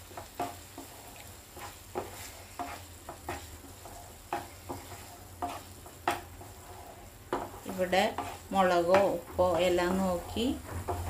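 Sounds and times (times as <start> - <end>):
faint sizzle: 0.0 - 11.0
spatula scraping a frying pan: 0.0 - 11.0.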